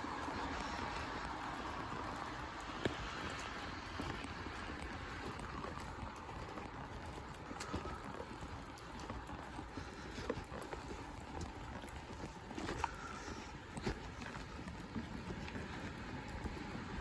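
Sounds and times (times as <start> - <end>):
tyre and road rumble: 0.0 - 17.0.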